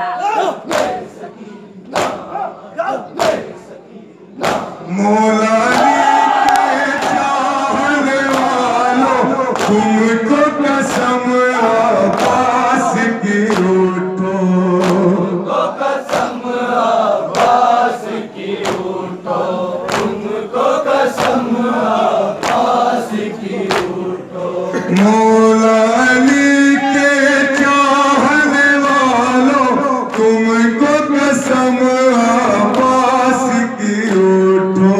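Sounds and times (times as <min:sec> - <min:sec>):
men chanting a lament: 0:00.0 - 0:34.9
rhythmic chest-beating: 0:00.0 - 0:34.9.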